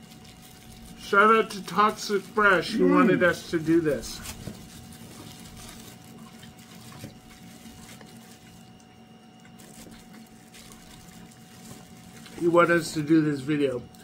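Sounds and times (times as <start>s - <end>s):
wet chewing: 0.0s - 12.8s
faint steady hum: 0.0s - 14.0s.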